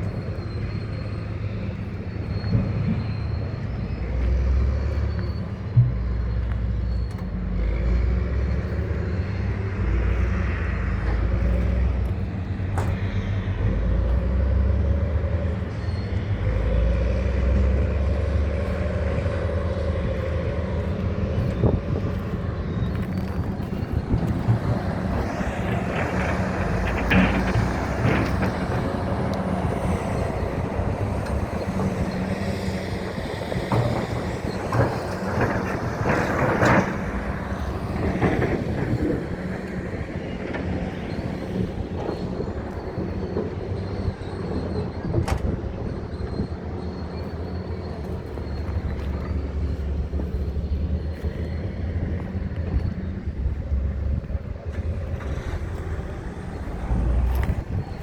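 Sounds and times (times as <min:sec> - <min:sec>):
clanks and rock clatter: 0:00.0 - 0:58.0
excavator engine running: 0:00.0 - 0:58.0.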